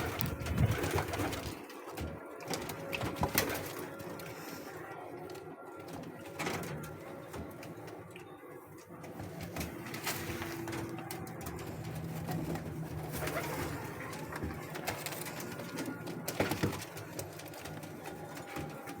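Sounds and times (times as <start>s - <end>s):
pigeon cooing: 0.0s - 19.0s.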